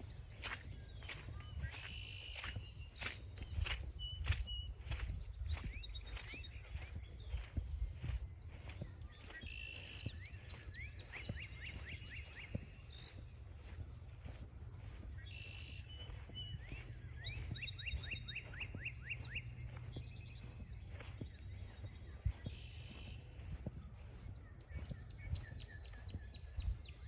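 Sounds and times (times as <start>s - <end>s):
footsteps on trail: 0.0s - 27.0s
songbird singing: 0.0s - 27.0s.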